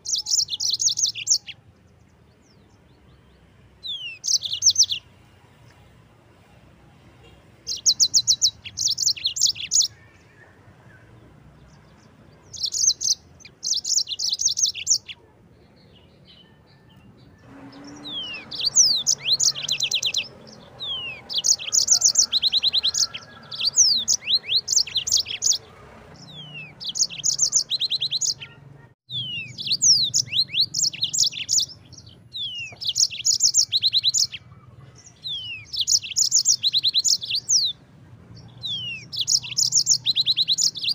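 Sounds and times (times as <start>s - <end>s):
canary singing trilled phrases: 0.0s - 1.8s, 3.1s - 5.1s, 7.2s - 10.6s, 11.7s - 37.8s, 38.4s - 40.9s.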